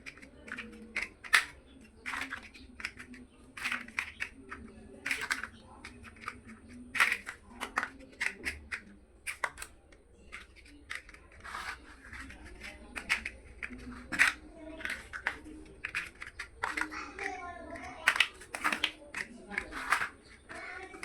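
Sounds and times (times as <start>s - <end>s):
plastic building bricks clicking: 0.0s - 21.0s.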